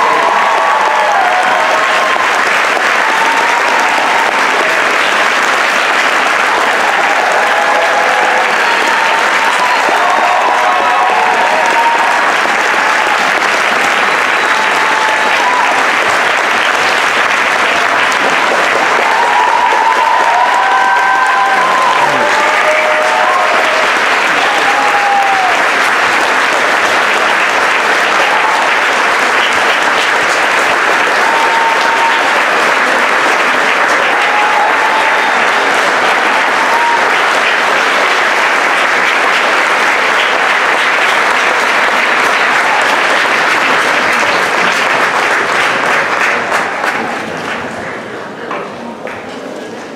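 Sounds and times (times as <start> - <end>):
audience applauding: 0.0 - 48.4.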